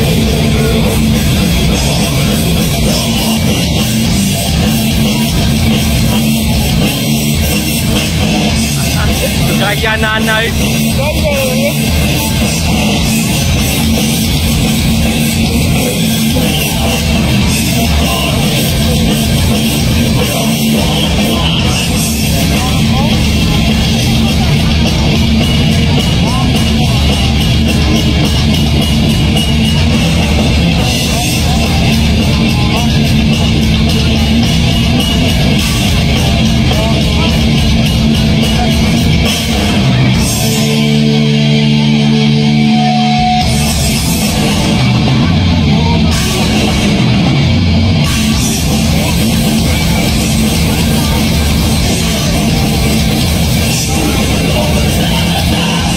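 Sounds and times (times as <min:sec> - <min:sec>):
heavy metal band playing: 0:00.0 - 0:55.9.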